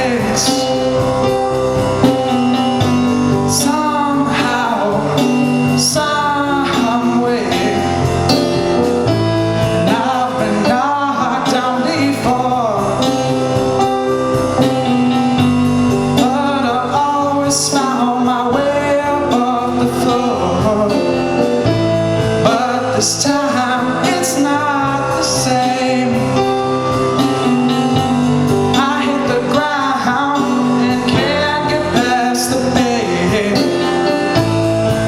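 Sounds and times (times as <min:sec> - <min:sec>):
bass: 0:00.0 - 0:35.0
drums: 0:00.0 - 0:35.0
electric guitar: 0:00.0 - 0:35.0
keyboard: 0:00.0 - 0:35.0.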